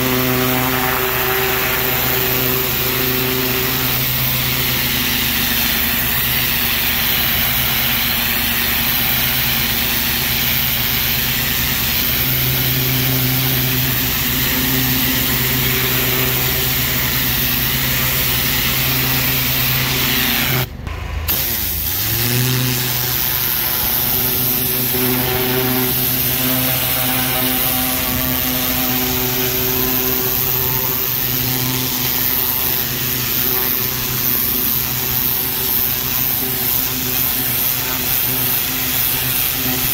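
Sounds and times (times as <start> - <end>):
water jet spraying brick: 0.0 - 20.7, 21.3 - 39.9
pressure washer motor humming: 0.0 - 39.9.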